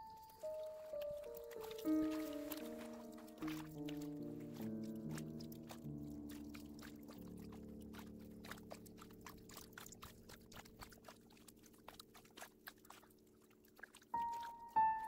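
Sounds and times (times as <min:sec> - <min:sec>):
soft background music: 0:00.0 - 0:13.1, 0:13.8 - 0:15.0
water dripping off paddle: 0:00.0 - 0:15.0.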